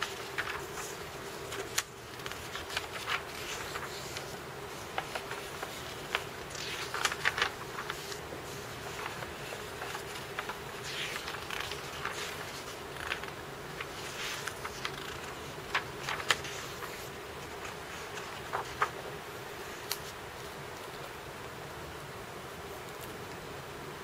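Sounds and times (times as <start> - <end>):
paper pages rustling: 0.0 - 21.0
low background hum: 0.0 - 24.0.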